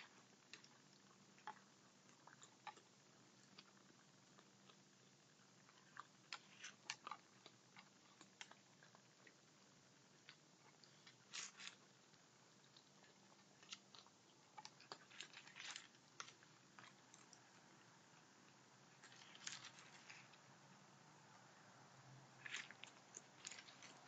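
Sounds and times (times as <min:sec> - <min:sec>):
animals crunching dry kibble: 0:00.0 - 0:17.9, 0:19.0 - 0:20.5, 0:22.4 - 0:24.0.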